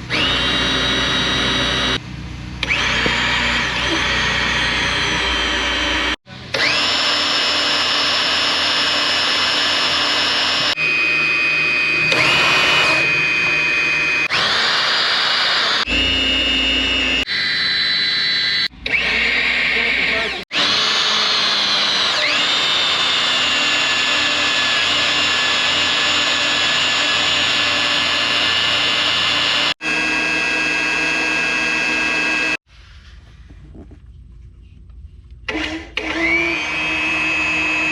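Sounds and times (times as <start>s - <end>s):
electric drill motor whining: 0.0s - 2.0s, 2.6s - 32.6s, 35.5s - 37.9s.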